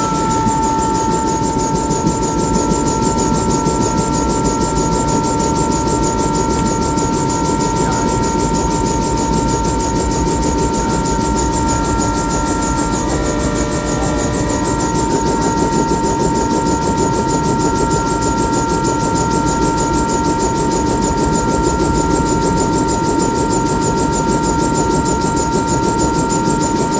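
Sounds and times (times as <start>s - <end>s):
helicopter engine whine: 0.0s - 26.9s.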